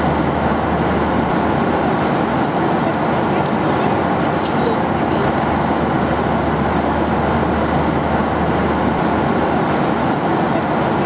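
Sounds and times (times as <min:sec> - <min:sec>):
airflow and aircraft engine noise: 0:00.0 - 0:11.0.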